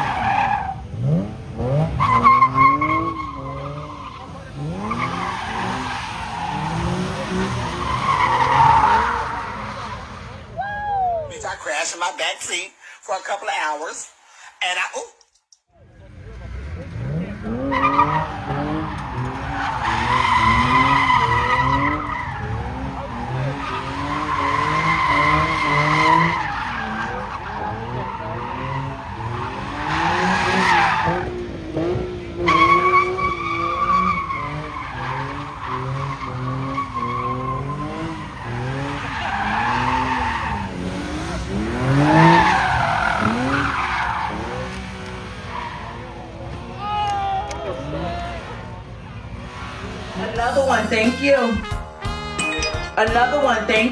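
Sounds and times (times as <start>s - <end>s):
car engine revving: 0.0s - 10.6s, 15.8s - 51.6s
tyres squealing: 0.0s - 12.0s, 16.5s - 51.6s.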